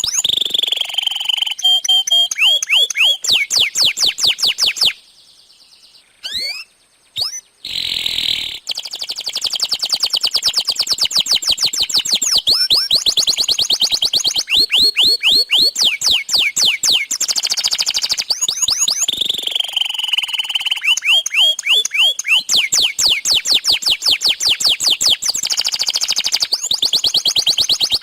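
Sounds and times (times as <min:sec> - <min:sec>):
canary singing trills: 0:00.0 - 0:28.0.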